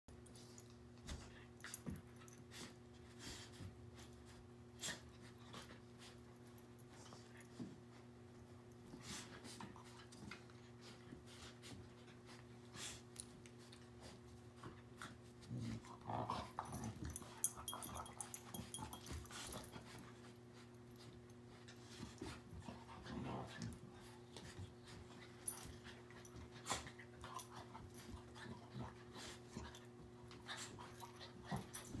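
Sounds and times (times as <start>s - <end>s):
dogs play growling: 4.7s - 32.0s.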